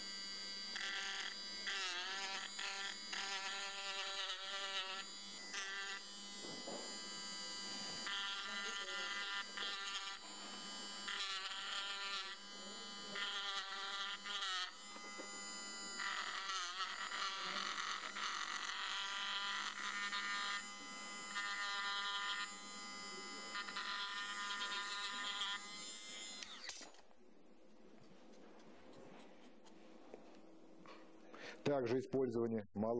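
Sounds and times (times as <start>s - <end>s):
mini drill grinding steel: 0.0s - 27.0s.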